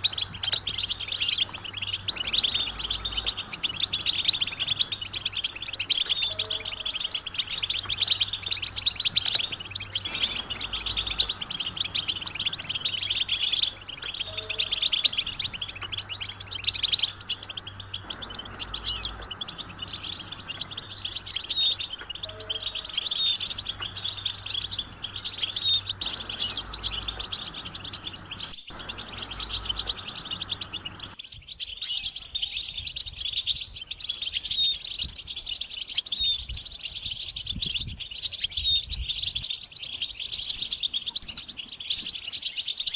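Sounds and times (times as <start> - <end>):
goldfinches chattering: 0.0 - 42.9.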